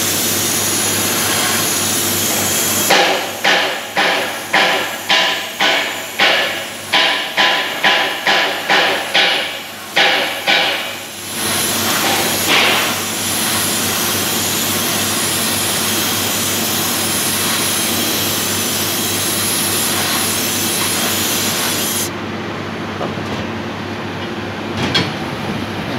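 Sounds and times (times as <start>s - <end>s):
sandblasting gun hissing: 0.0s - 22.1s
machine running noise: 0.0s - 25.9s.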